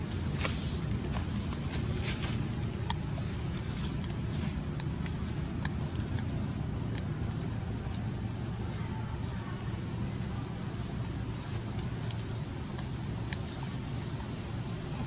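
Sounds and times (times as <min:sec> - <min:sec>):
low outdoor rumble: 0:00.0 - 0:15.0
rustling of dry leaves: 0:00.0 - 0:15.0.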